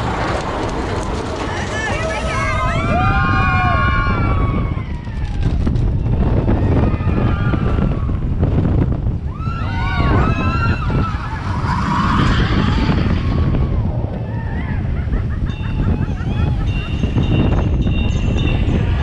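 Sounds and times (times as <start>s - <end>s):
roller coaster rumbling on track: 0.0s - 19.0s
wind rushing over microphone: 0.0s - 19.0s.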